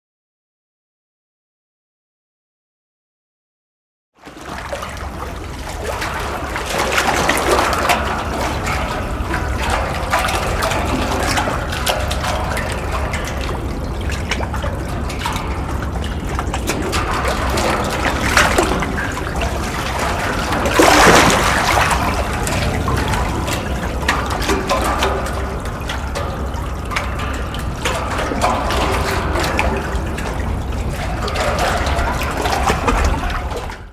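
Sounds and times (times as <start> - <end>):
water sloshing under a grate: 4.2 - 33.9.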